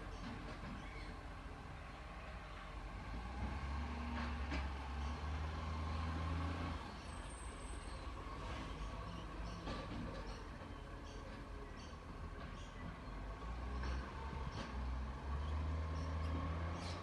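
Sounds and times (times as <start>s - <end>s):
garbage truck engine droning: 0.0s - 17.0s.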